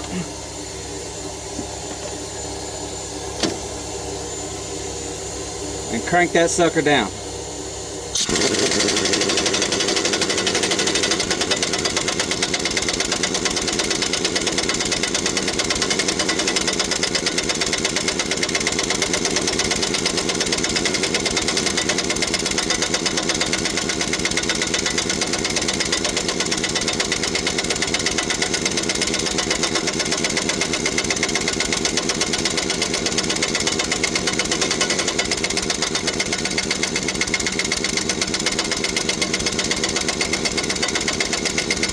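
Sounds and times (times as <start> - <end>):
impact wrench hammering: 0.0 - 4.0, 8.2 - 41.9.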